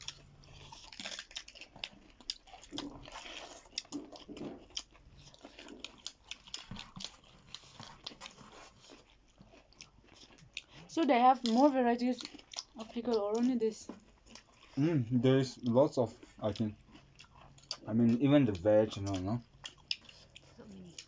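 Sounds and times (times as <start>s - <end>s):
wet mouth sounds: 0.0s - 11.6s, 13.9s - 18.2s, 18.9s - 21.0s
crunchy chewing of food: 0.0s - 21.0s.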